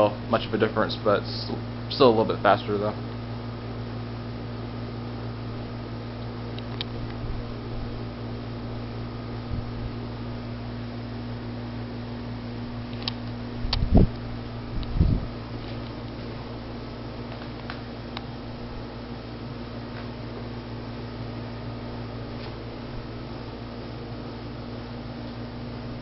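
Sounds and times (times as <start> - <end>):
ceiling fan running: 0.0 - 26.0.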